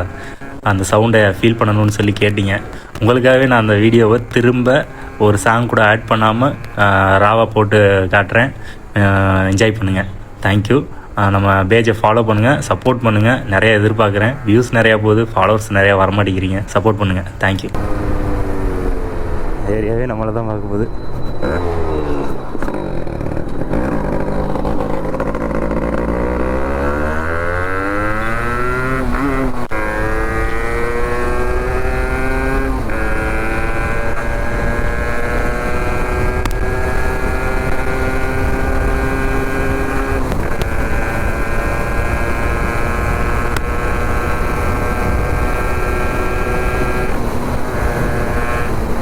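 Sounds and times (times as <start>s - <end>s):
motorcycle accelerating: 0.0s - 49.0s.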